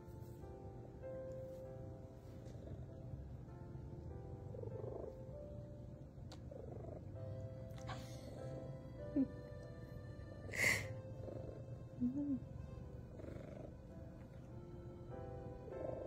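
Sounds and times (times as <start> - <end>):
background music: 0.0 - 16.0
cat purring: 1.3 - 16.0.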